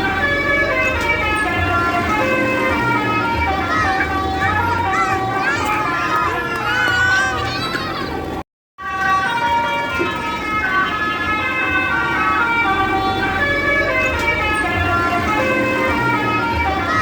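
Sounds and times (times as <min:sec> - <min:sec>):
bus horn playing a tune: 0:00.0 - 0:06.8, 0:08.2 - 0:17.0.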